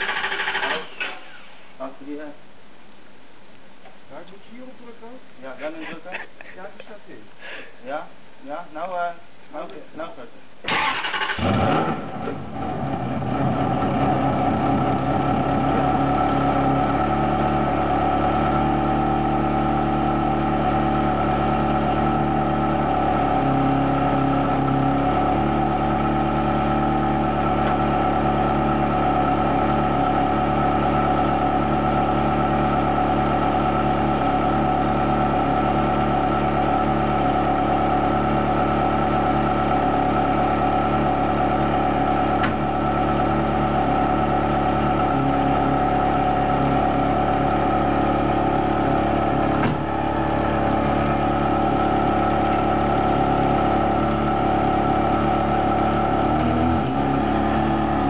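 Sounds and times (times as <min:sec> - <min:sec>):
car engine idling: 0:00.0 - 0:01.8, 0:10.6 - 0:58.0.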